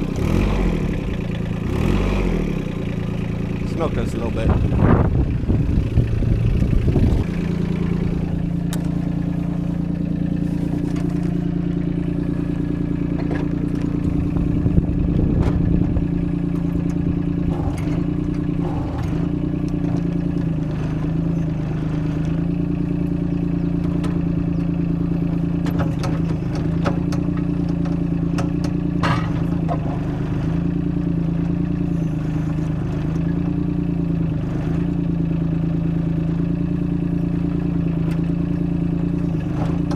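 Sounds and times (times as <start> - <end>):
mini excavator diesel engine running: 0.0 - 39.9.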